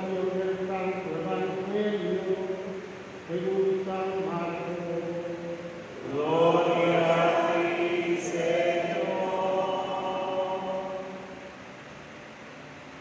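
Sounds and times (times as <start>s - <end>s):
liturgical chant singing: 0.0s - 11.6s.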